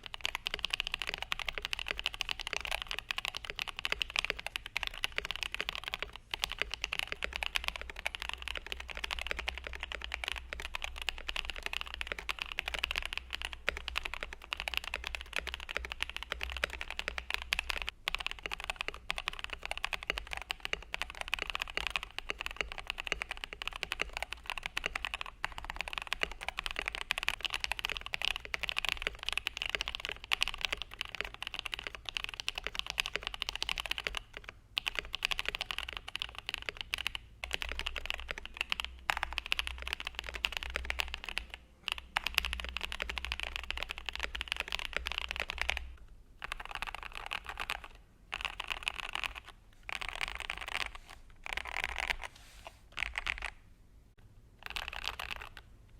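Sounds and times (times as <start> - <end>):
fast typing on mechanical keyboard: 0.0 - 52.3, 53.0 - 53.6, 54.6 - 55.7.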